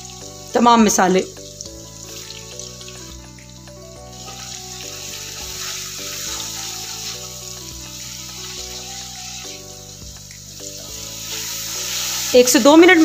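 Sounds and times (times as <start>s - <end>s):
background music with chords: 0.0s - 13.0s
spices sizzling in oil: 0.0s - 13.0s
spatula stirring in a pan: 1.5s - 12.8s.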